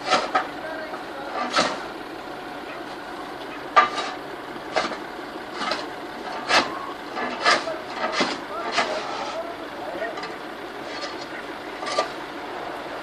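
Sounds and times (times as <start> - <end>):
vehicle engine revving in snow: 0.0 - 13.0.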